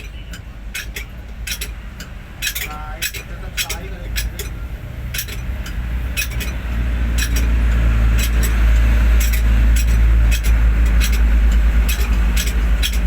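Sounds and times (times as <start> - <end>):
sharp metallic clinks: 0.0 - 11.3, 11.9 - 13.0
diesel truck engine rumbling: 0.0 - 13.0.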